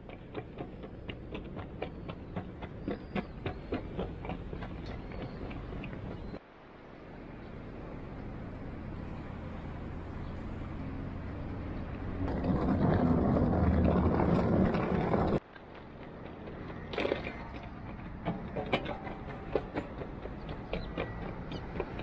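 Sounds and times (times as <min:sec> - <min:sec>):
low engine hum: 0:00.0 - 0:22.0
passing vehicles rumble: 0:00.0 - 0:22.0.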